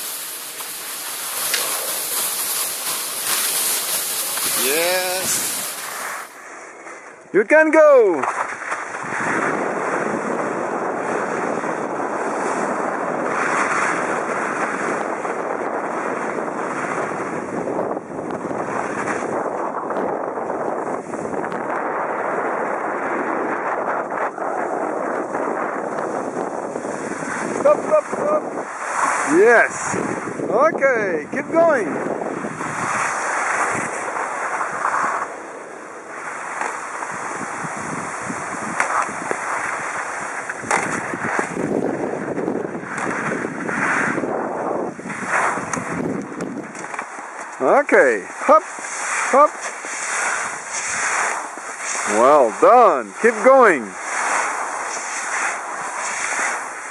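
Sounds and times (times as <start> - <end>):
skis sliding over snow: 0.0 - 56.9
wind noise on microphone: 0.0 - 56.9.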